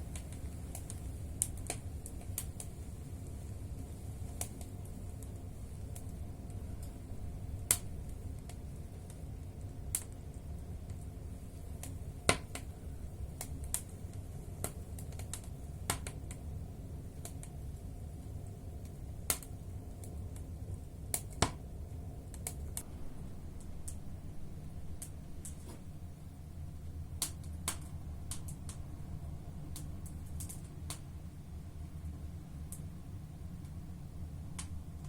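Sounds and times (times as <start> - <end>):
firewood crackling and popping: 0.0 - 35.0.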